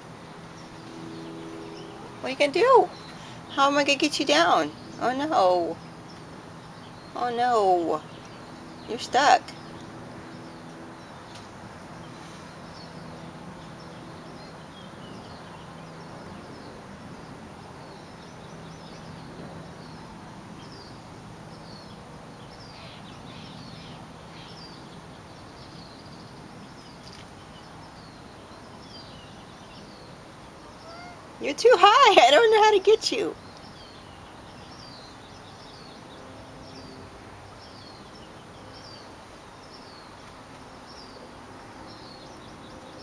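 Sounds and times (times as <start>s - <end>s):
small birds chirping: 0.0s - 43.0s
steady background hiss: 0.0s - 43.0s.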